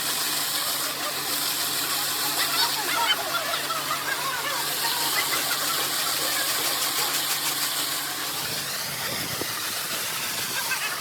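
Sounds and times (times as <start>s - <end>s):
machinery noise: 0.0s - 11.0s.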